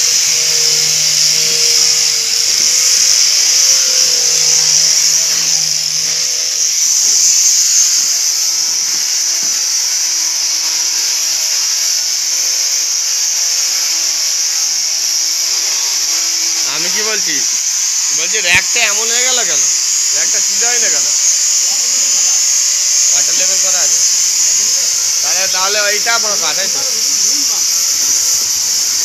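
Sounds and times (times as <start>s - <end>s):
power tool whining: 0.0s - 29.0s.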